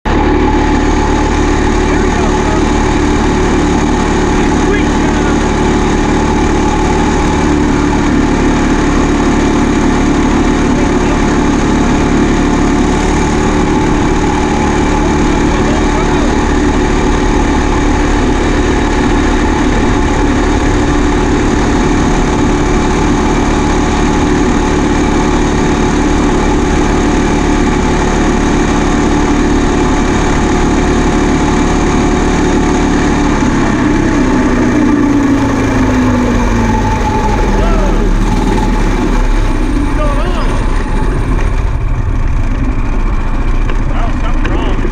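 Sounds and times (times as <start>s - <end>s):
harvester engine running: 0.0s - 44.9s.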